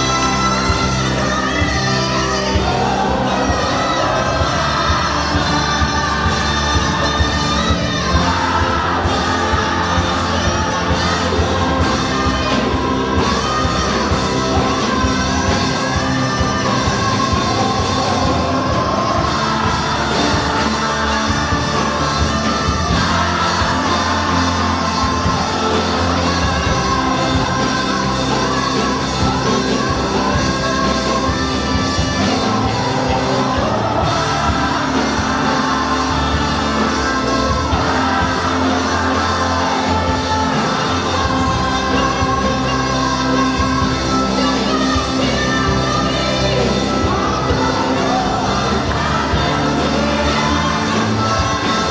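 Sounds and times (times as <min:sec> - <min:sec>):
gospel band playing: 0:00.0 - 0:51.9
person singing: 0:00.0 - 0:51.9.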